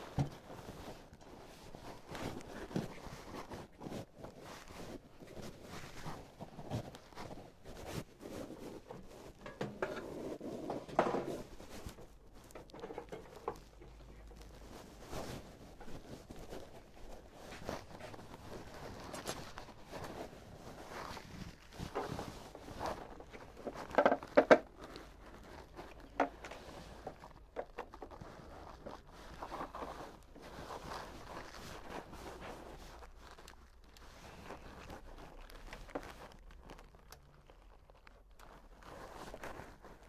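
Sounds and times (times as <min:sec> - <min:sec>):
rustling: 0:00.0 - 0:40.0.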